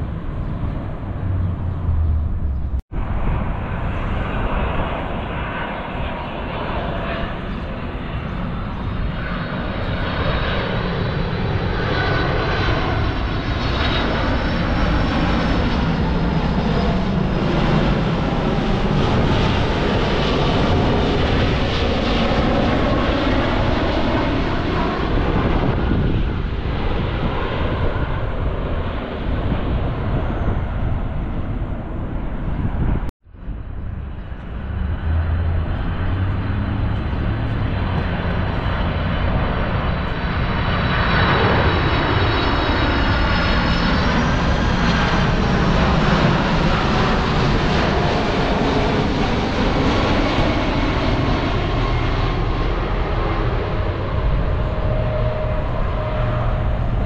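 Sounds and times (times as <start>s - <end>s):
high jet engine whine: 0.0s - 57.0s
jet rumble passing overhead: 0.0s - 57.0s.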